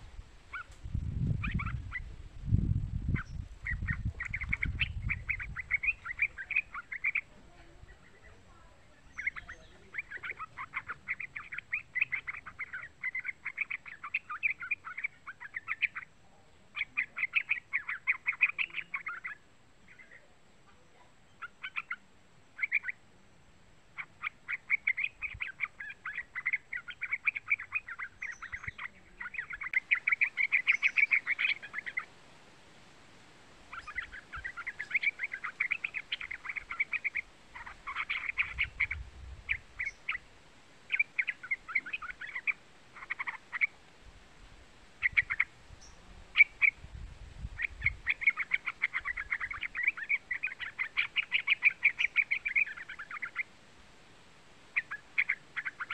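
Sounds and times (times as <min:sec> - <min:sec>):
bird chattering song: 0:00.5 - 0:23.1, 0:23.9 - 0:32.1, 0:33.7 - 0:40.3, 0:40.9 - 0:43.8, 0:45.0 - 0:53.5, 0:54.7 - 0:55.9.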